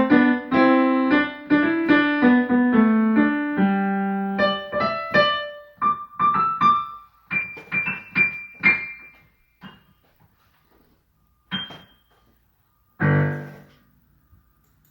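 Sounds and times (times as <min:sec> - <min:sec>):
piano notes: 0:00.0 - 0:14.6.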